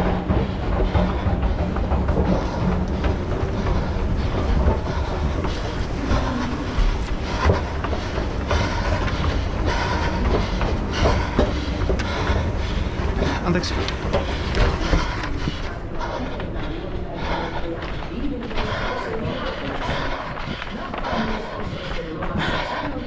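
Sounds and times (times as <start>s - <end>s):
rumbling movement noise: 0.0s - 23.0s
running footsteps: 0.0s - 23.0s.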